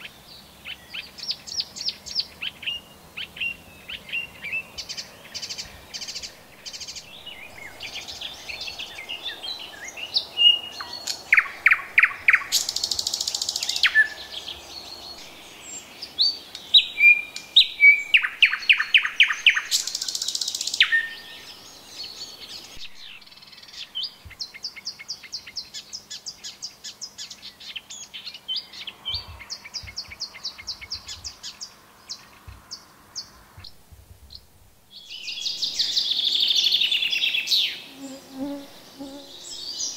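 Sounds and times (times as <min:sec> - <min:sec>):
small birds singing: 0:00.0 - 0:39.9
thrush nightingale singing: 0:00.0 - 0:39.9.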